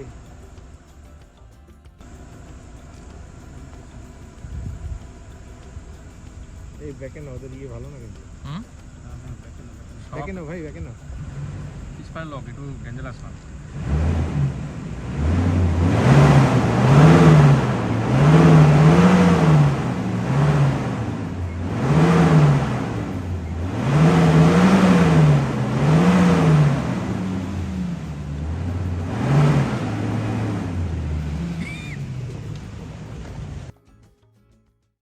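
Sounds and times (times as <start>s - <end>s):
vehicle engine revving: 0.0s - 33.7s.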